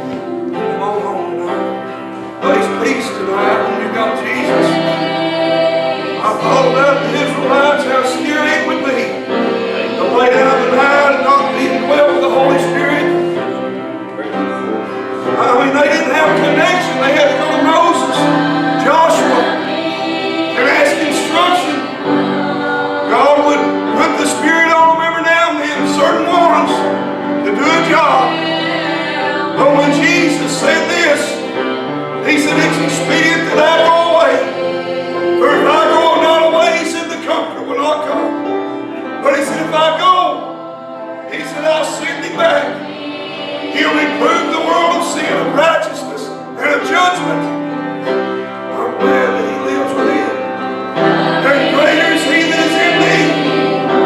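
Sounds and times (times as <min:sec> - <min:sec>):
gospel singing: 0:00.0 - 0:54.0
instrumental accompaniment: 0:00.0 - 0:54.0.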